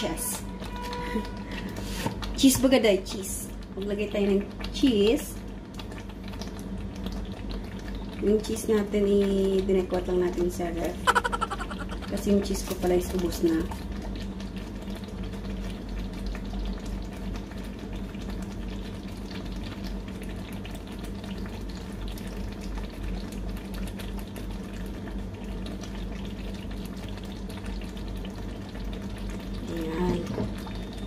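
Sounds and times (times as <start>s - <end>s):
sauce bubbling in a wok: 0.0s - 31.0s.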